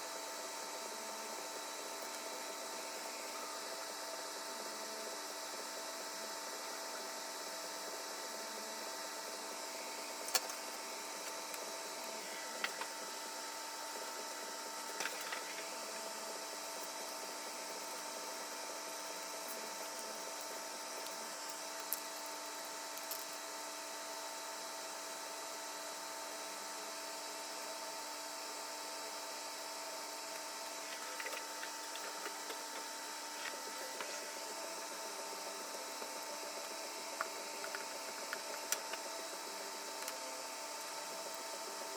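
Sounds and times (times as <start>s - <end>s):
steady hum and hiss: 0.0s - 41.9s.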